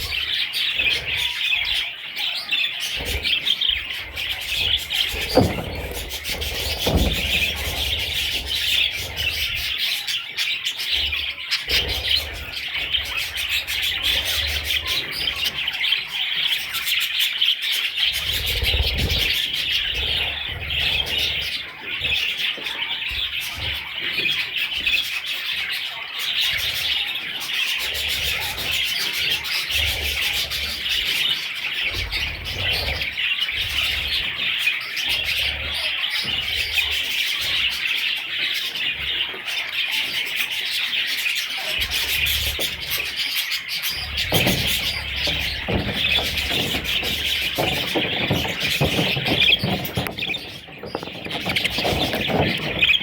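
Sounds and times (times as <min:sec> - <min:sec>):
budgerigars chirping: 0:00.0 - 0:53.0.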